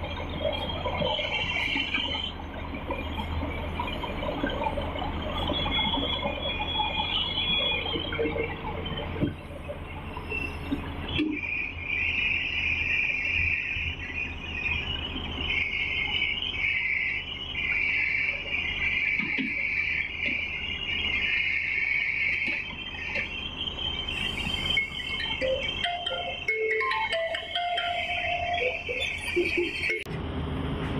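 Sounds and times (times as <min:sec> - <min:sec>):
excavator diesel engine rumbling: 0:00.0 - 0:30.9.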